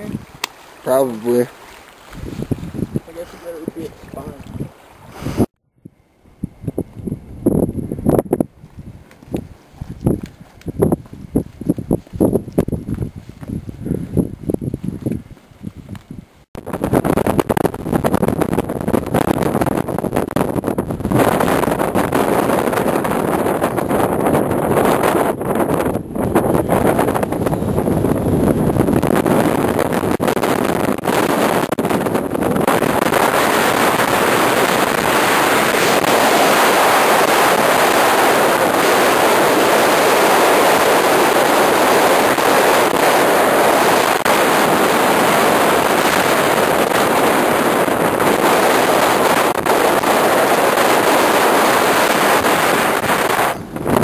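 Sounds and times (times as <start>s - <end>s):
wind on the microphone: 0.0s - 54.0s.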